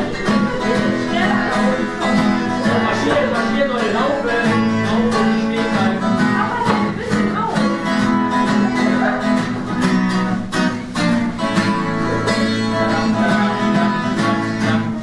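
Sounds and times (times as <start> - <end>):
plucked string instrument tune: 0.0 - 15.0.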